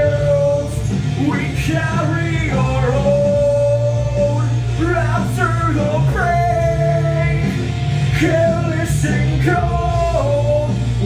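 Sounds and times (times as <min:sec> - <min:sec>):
hard rock band playing: 0:00.0 - 0:11.0
man singing rock vocals: 0:00.0 - 0:11.0.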